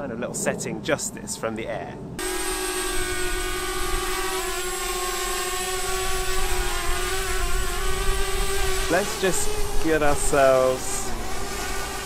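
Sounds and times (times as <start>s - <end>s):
drone propellers whining: 2.0s - 12.0s.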